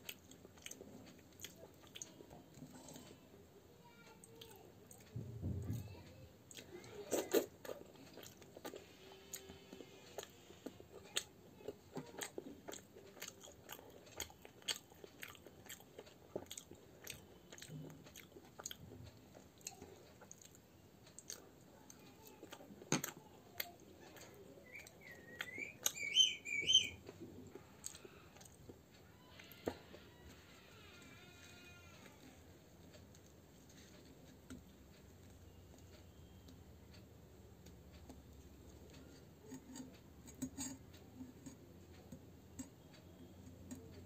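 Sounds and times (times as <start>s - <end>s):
chewing and crunching food: 0.0s - 44.0s.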